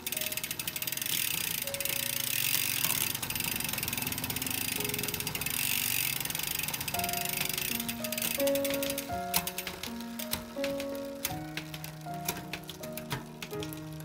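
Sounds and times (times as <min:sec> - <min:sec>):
bicycle freehub ratcheting: 0:00.0 - 0:14.0.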